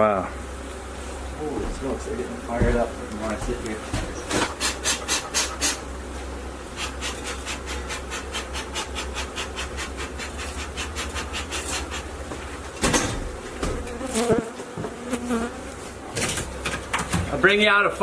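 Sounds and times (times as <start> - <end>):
honeybees buzzing: 0.0 - 17.3.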